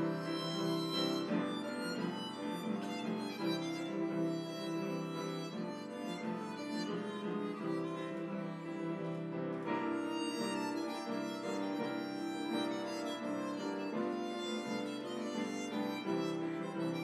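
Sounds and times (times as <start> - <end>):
harmonica melody: 0.0 - 17.0
piano accompaniment: 0.0 - 17.0.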